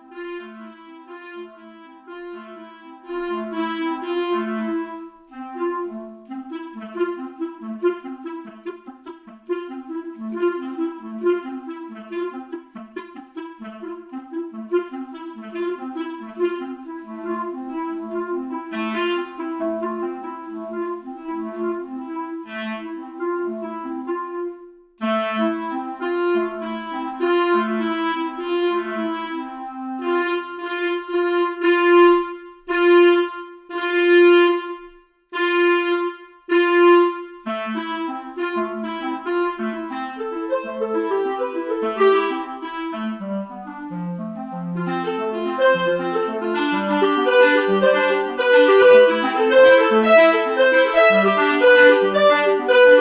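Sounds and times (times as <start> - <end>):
orchestral woodwind melody: 0.0 - 53.0.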